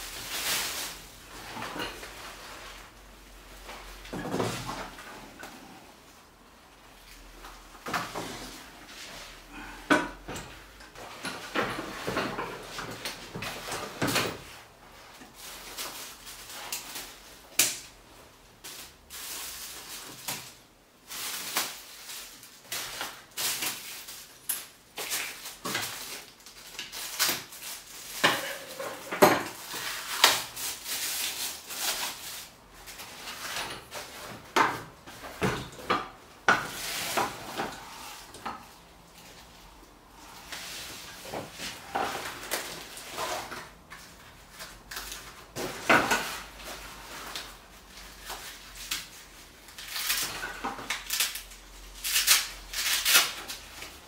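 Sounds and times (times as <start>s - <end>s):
plastic wrapping rustling: 0.0s - 6.2s, 10.5s - 54.0s.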